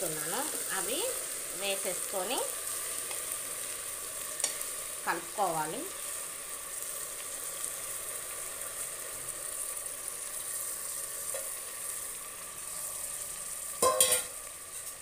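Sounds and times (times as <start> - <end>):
masala sizzling in a pot: 0.0 - 15.0.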